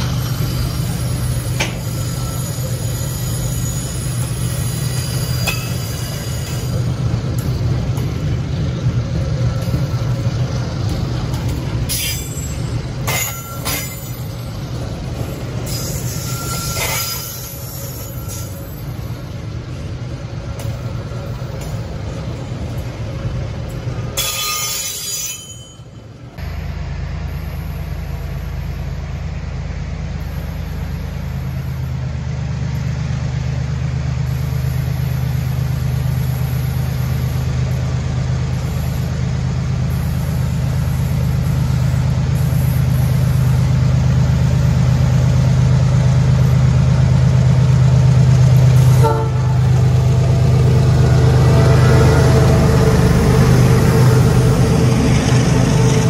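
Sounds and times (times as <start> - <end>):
diesel locomotive drone: 0.0 - 56.0
train cars rolling on steel wheels: 0.0 - 56.0.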